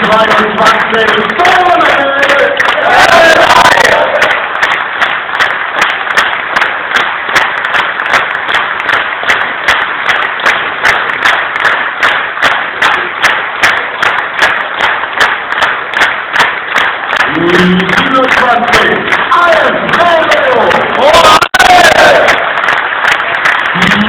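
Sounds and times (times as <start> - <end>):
crowd clapping in unison: 0.0 - 24.0.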